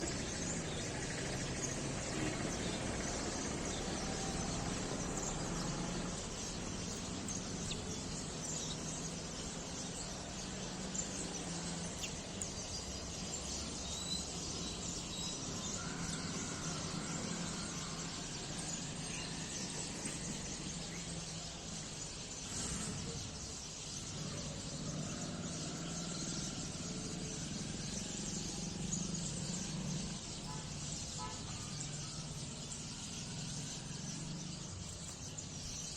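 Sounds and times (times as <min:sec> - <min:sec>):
sparrows chirping: 0:00.0 - 0:35.9.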